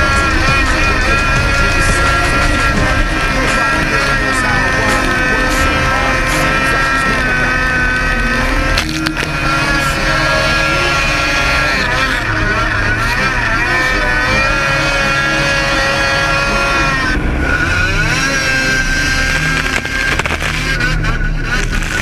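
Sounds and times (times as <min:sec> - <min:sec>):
snowmobile engine whining: 0:00.0 - 0:22.0.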